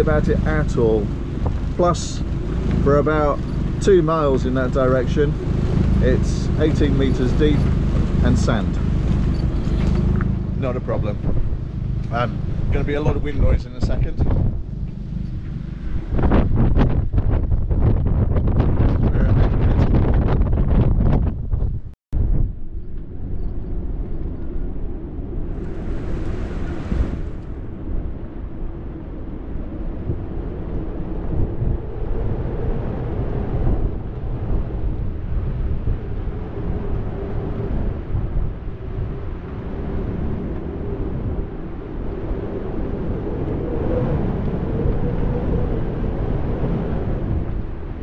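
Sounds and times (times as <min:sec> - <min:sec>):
constant low drone: 0:00.0 - 0:21.6, 0:22.2 - 0:48.0
wind and sea rumble: 0:00.0 - 0:48.0.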